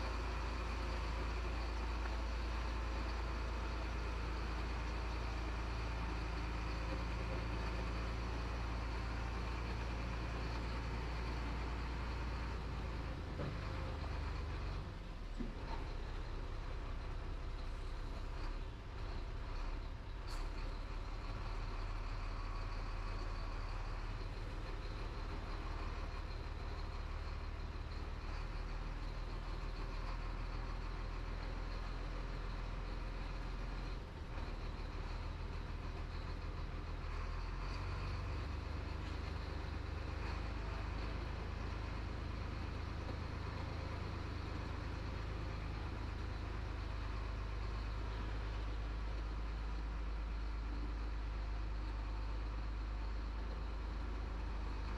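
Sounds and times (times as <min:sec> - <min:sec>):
diesel engine low drone: 0:00.0 - 0:54.9.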